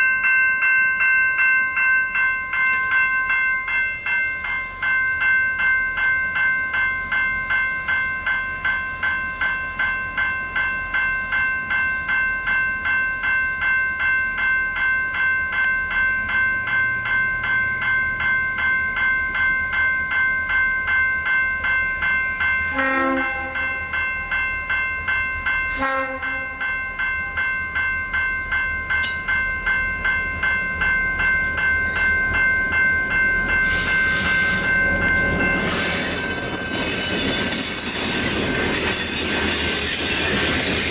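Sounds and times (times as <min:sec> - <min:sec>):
level crossing warning bell: 0:00.0 - 0:40.9.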